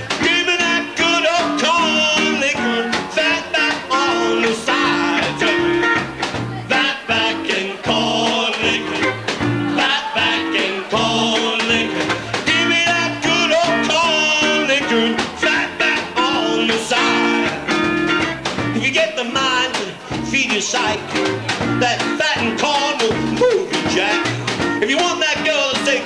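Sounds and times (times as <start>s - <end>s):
electric guitar: 0.0s - 26.0s
person singing: 0.0s - 26.0s
steady drum beat: 0.0s - 26.0s
upright bass: 0.0s - 26.0s.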